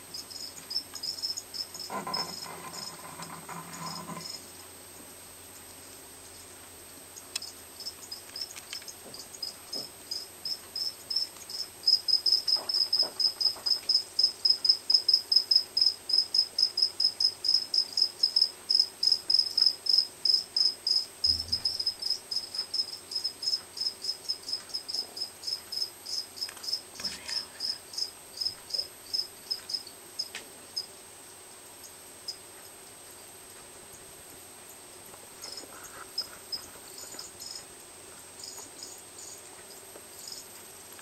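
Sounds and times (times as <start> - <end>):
cricket chirping: 0.1 - 4.4, 7.1 - 30.9, 34.7 - 37.8, 38.4 - 40.5.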